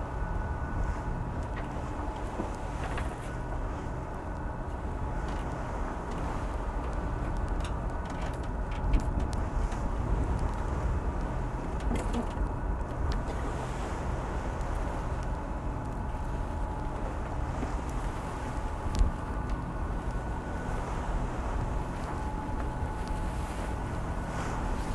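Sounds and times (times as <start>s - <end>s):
boat engine rumble: 0.0s - 24.9s
wind on microphone: 0.0s - 24.9s.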